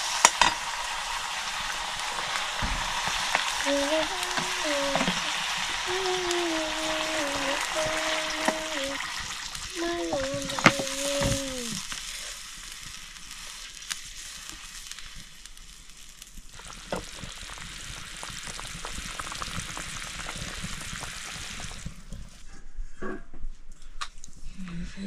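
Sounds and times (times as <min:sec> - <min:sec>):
curry sizzling in oil: 0:00.0 - 0:22.4.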